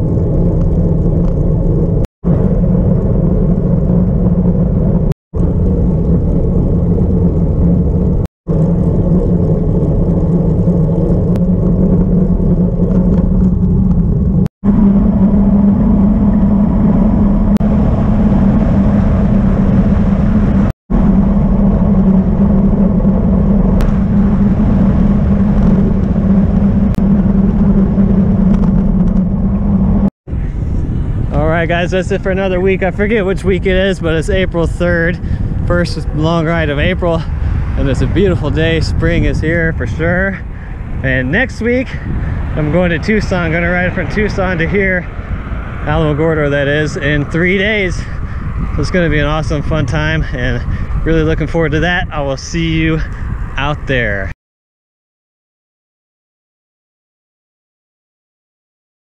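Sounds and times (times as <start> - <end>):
bike tyres rolling on asphalt: 0.0 - 54.3
wind rushing: 0.0 - 54.3.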